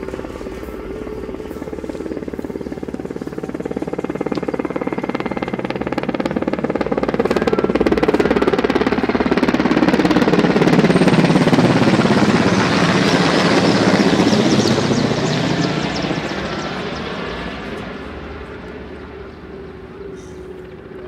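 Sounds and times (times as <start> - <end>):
helicopter engine noise: 0.0 - 21.0
helicopter rotor beating: 0.0 - 21.0.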